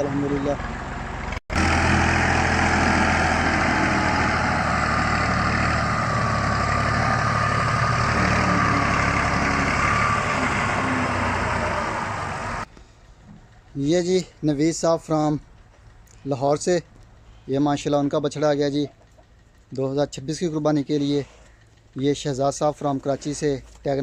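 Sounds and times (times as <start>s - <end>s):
tractor engine running: 0.0s - 23.9s.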